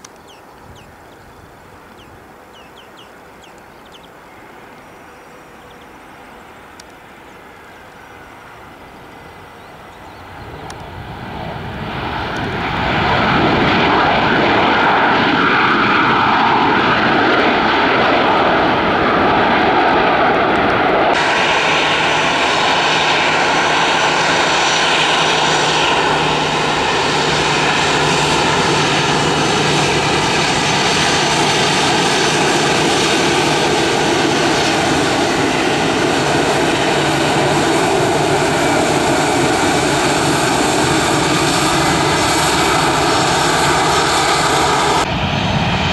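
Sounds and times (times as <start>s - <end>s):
jet engine whine: 0.0s - 45.9s
jet engines running: 0.0s - 45.9s.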